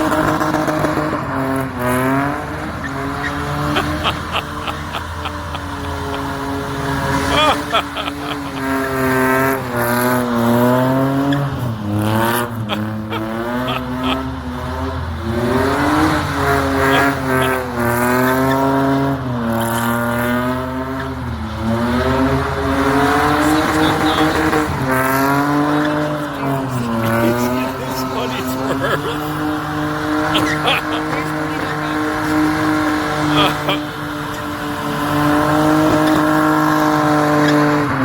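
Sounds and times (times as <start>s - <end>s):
car engine revving hard: 0.0s - 38.0s
tyres spinning on pavement: 0.0s - 38.0s.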